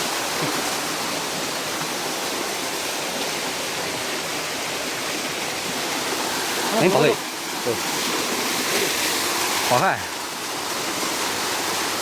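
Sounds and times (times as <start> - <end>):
water rushing in a stream: 0.0 - 12.0.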